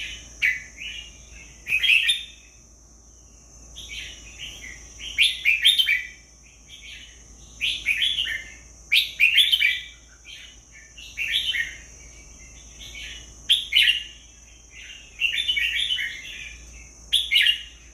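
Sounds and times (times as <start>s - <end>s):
bird singing warbled phrases: 0.0s - 17.9s.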